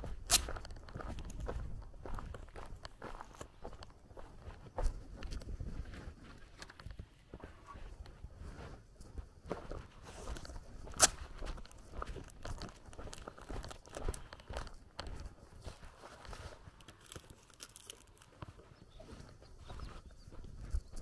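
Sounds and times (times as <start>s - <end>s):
footsteps scuffing and crunching: 0.0s - 21.0s.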